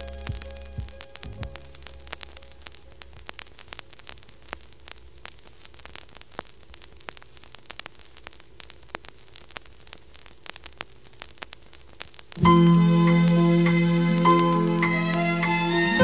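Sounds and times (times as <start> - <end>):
faint hiss: 0.0 - 16.0
static crackling clicks: 0.0 - 16.0.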